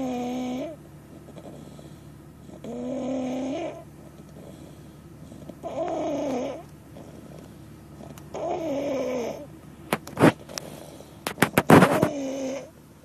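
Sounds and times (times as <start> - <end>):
baby snoring: 0.0 - 9.5, 10.2 - 12.8.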